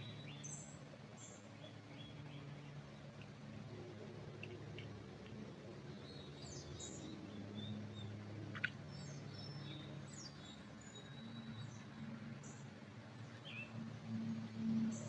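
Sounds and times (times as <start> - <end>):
low steady hum: 0.0 - 15.0
songbirds chirping and trilling: 0.0 - 15.0.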